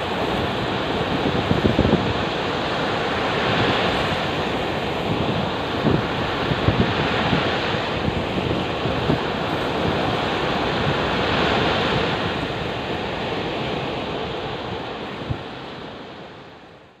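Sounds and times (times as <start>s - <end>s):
wind buffeting microphone: 0.0s - 16.4s
rough surf breaking: 0.0s - 16.6s.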